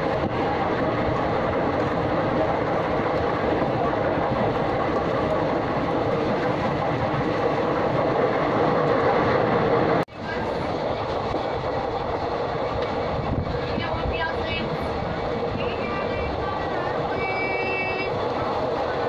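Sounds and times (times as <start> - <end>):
train running inside carriage: 0.0 - 19.0.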